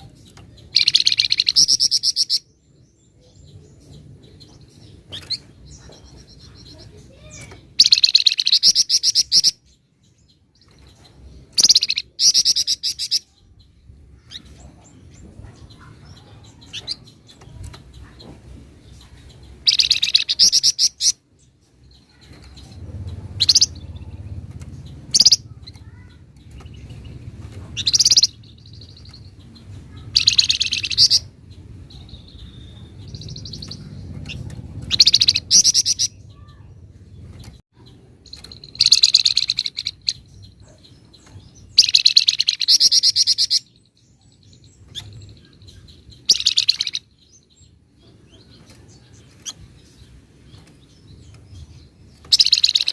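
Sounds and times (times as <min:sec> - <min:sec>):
songbird chattering trills: 0:00.0 - 0:52.9.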